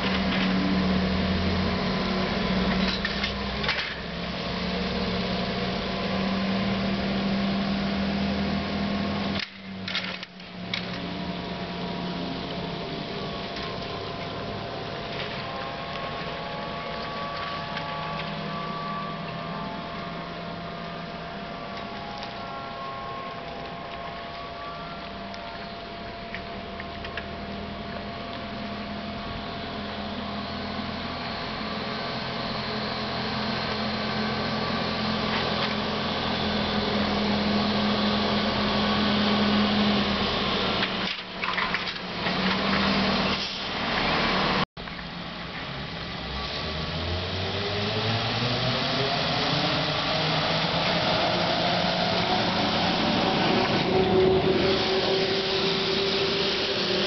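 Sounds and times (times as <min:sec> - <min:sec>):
traction motor whine rising: 0:00.0 - 0:44.6, 0:45.6 - 0:57.0
trolleybus electric hum: 0:00.0 - 0:57.0.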